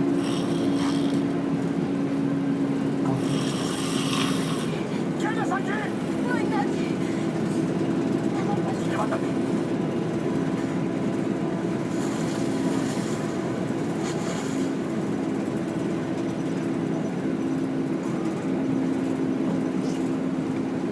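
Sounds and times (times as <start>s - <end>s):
bus engine drone: 0.0s - 20.9s
constant low hum: 0.0s - 20.9s
road noise: 0.0s - 20.9s.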